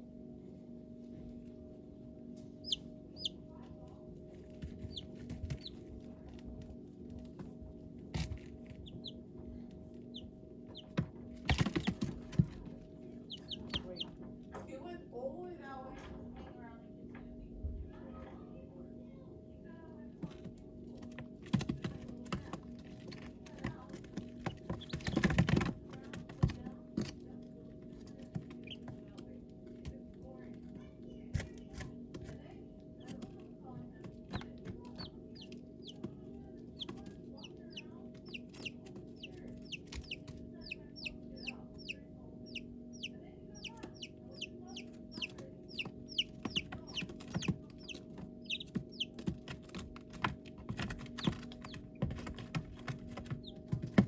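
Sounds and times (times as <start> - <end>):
steady low hum: 0.0 - 54.0
baby chicks peeping: 1.0 - 15.0, 20.2 - 54.0.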